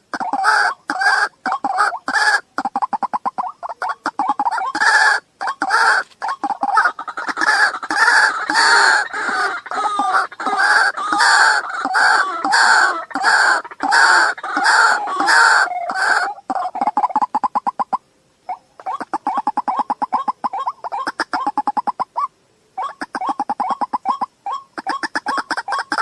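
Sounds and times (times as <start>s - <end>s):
bird harsh repeated calls: 0.0s - 26.0s.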